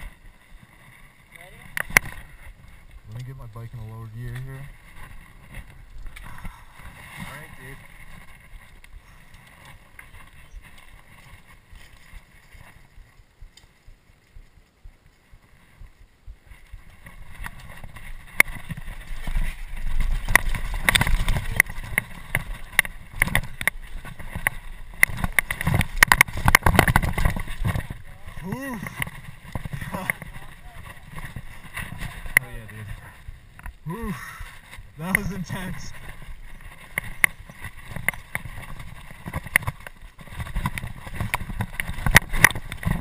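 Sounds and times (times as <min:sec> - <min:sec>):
bike tyres rolling on gravel: 0:00.0 - 0:43.0
bike clattering over rocks: 0:01.3 - 0:12.9, 0:16.8 - 0:43.0.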